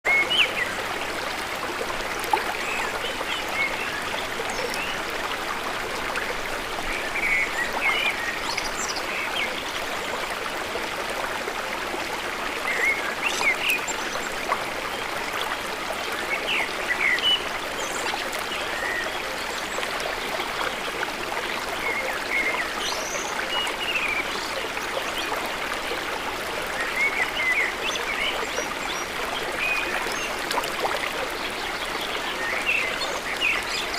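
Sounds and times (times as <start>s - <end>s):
river water flowing: 0.1s - 33.9s.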